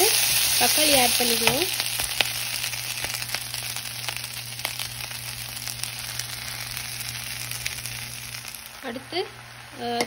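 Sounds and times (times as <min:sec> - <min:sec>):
onions sizzling in a pan: 0:00.0 - 0:10.0.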